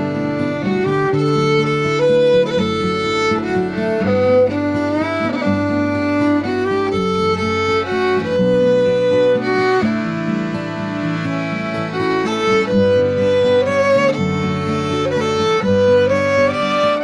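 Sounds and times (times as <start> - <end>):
fiddle playing slow melody: 0.0 - 17.0
steady accompaniment: 0.0 - 17.0.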